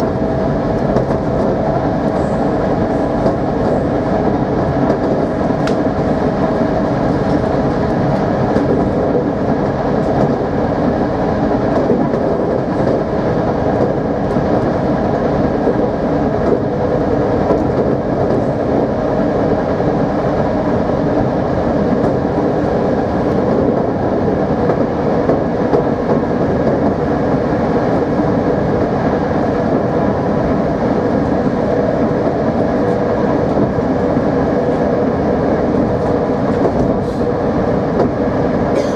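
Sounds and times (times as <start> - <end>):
wheel and rail noise: 0.0 - 38.9.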